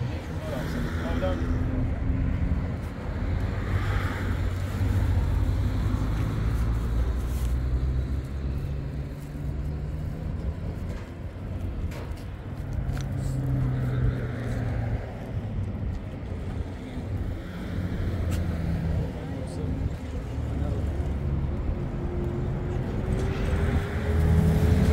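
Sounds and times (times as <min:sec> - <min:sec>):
road noise: 0:00.0 - 0:24.9.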